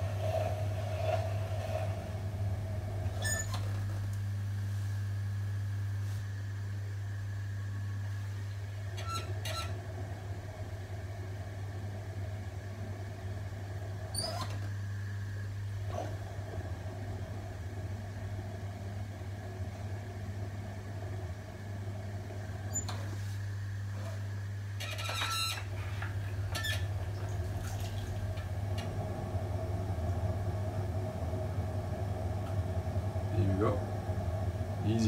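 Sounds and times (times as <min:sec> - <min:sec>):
potter's wheel humming: 0:00.0 - 0:35.0.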